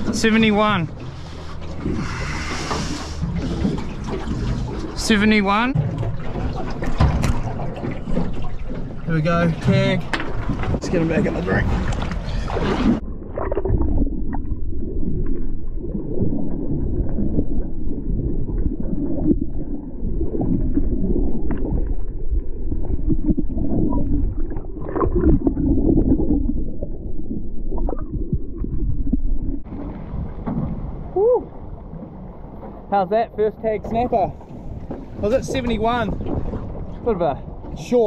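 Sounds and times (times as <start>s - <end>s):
muffled underwater rumble and gurgling: 0.0s - 38.0s
water splashing: 0.0s - 38.0s.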